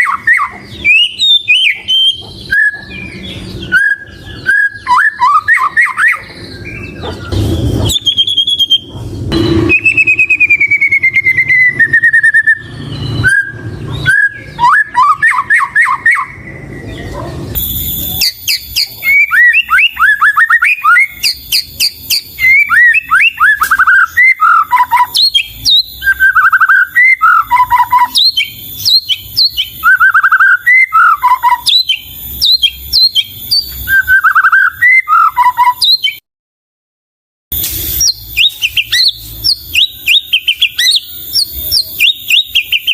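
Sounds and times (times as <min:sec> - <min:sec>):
songbird whistling song: 0:00.0 - 0:36.2, 0:37.6 - 0:42.9.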